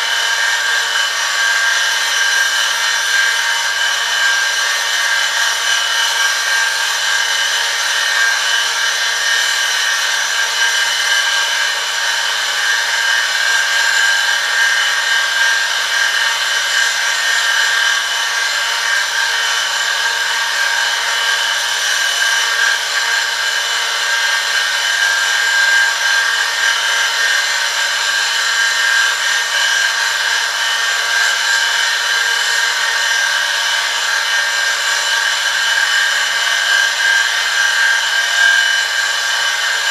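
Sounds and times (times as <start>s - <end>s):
metal-on-metal grinding whine: 0.0s - 39.9s.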